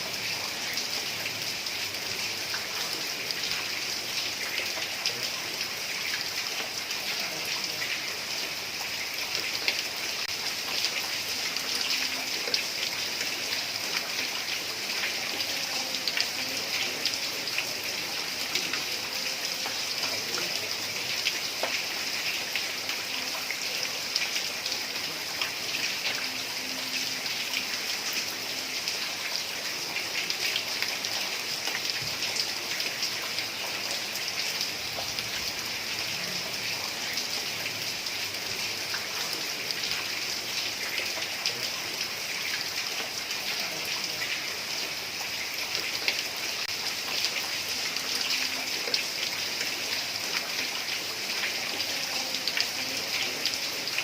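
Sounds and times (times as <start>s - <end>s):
heavy rain on roof tiles: 0.0s - 54.0s.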